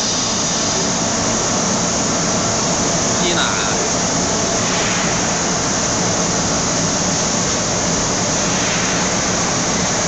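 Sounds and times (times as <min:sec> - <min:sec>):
machinery noise with low hum: 0:00.0 - 0:10.0.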